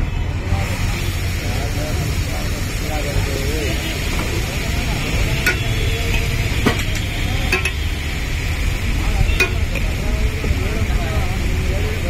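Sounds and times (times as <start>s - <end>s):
street noise rumble: 0.0s - 12.0s
sauce sizzling on a hot pan: 0.6s - 12.0s.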